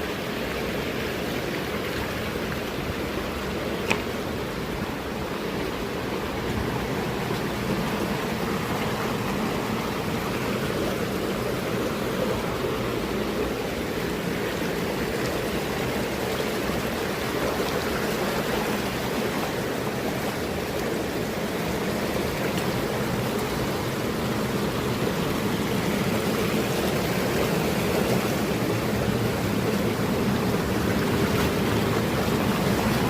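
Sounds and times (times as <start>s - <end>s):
rushing mountain stream: 0.0s - 33.0s.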